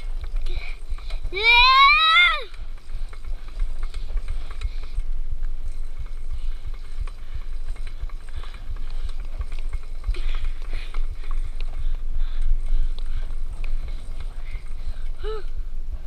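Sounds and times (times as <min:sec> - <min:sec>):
bicycle clicking and rattling: 0:00.0 - 0:16.0
wind rumble on microphone: 0:00.0 - 0:16.0.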